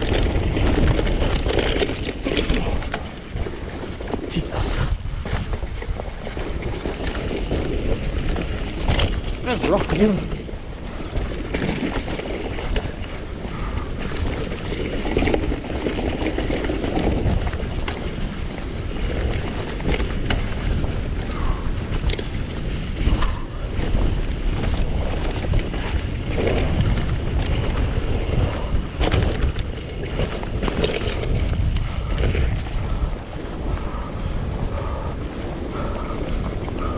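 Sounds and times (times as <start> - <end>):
bike rattling and knocking: 0.0 - 36.9
bike tyres rumbling over rocks: 0.0 - 36.9
wind buffeting microphone: 0.0 - 36.9.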